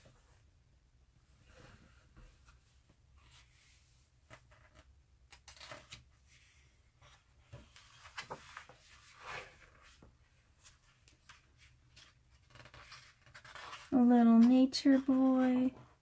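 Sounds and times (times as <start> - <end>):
book pages rustling and turning: 1.5 - 16.0.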